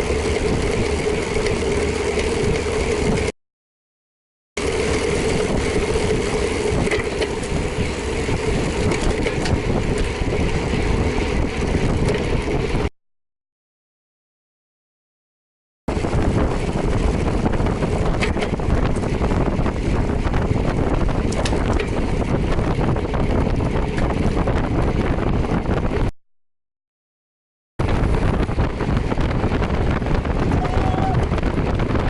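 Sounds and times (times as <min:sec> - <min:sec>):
wind buffeting microphone: 0:00.0 - 0:03.3, 0:04.6 - 0:12.9, 0:15.9 - 0:26.1, 0:27.8 - 0:32.0.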